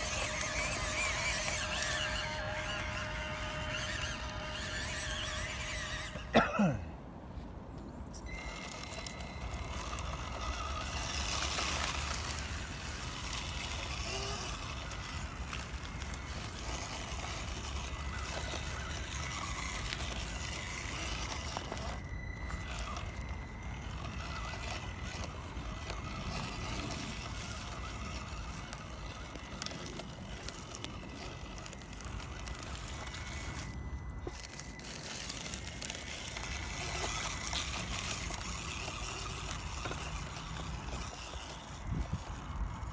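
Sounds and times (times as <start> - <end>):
rc car motor whine: 0.0 - 6.8, 8.0 - 42.9
chassis and tyres rumbling: 0.0 - 42.9.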